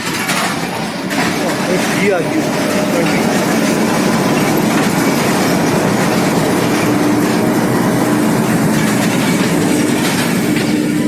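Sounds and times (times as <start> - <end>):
train rumbling on tracks: 0.0 - 11.0.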